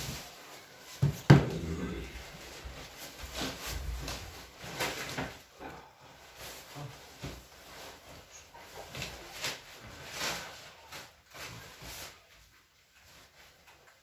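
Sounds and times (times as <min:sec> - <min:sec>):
paper cover rustling: 0:00.0 - 0:14.0.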